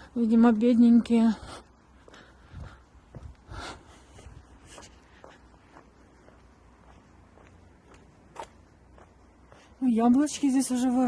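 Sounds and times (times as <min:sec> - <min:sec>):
footsteps of person walking: 0:00.4 - 0:10.8.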